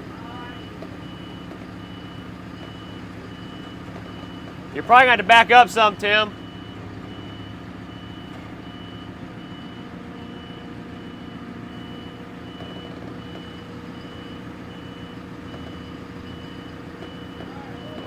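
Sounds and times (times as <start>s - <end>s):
engine humming: 0.0s - 18.0s
vehicle back-up alarm beeping: 0.0s - 18.0s.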